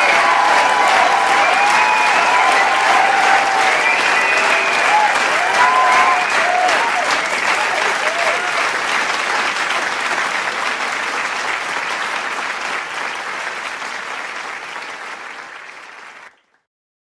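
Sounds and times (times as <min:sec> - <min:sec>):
crowd cheering: 0:00.0 - 0:16.5
crowd clapping: 0:00.0 - 0:16.7.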